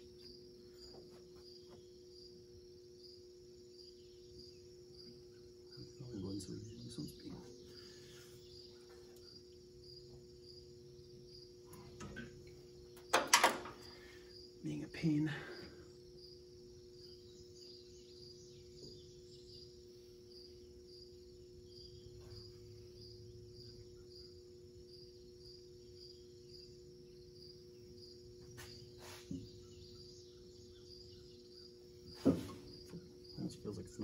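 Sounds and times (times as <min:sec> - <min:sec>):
crickets chirping: 0:00.0 - 0:34.0
steady low hum: 0:00.0 - 0:34.0.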